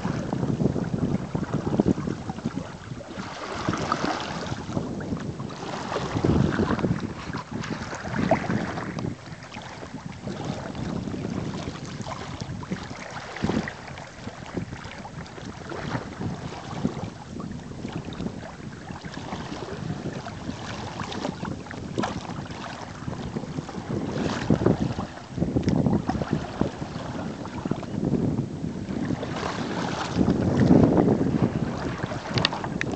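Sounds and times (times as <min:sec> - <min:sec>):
water splashing along hull: 0:00.0 - 0:32.9
wind buffeting microphone: 0:00.0 - 0:32.9.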